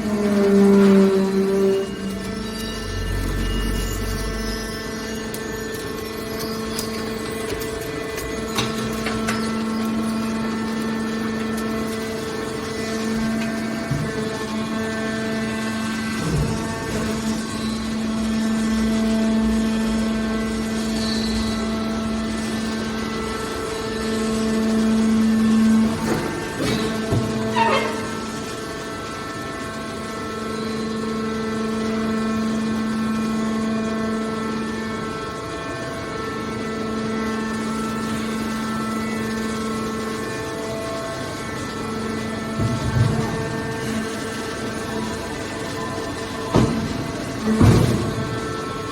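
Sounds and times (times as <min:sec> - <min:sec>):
hydraulic power unit humming: 0:00.0 - 0:48.9.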